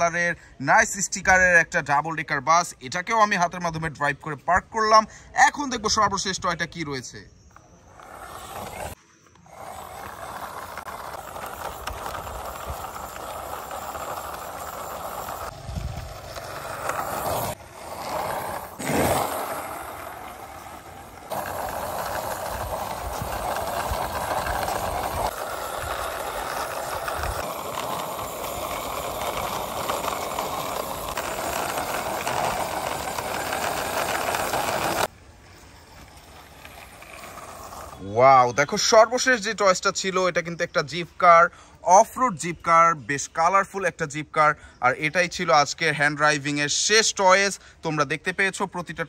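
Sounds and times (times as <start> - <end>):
toy wheels rolling on concrete: 2.6 - 44.4.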